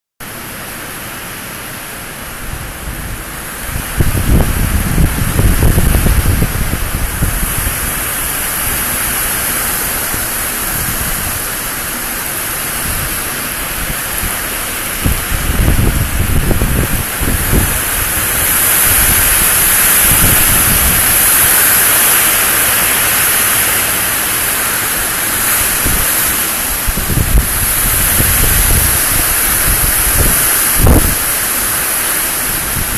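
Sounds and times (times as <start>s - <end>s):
heavy rain hissing: 0.2s - 32.9s
wind gusts buffeting microphone: 2.4s - 32.9s.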